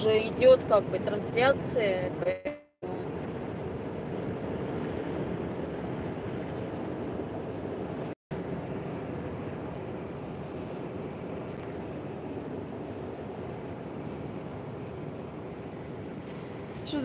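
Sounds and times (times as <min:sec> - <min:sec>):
lorry engine and tyre noise: 0:00.0 - 0:17.0.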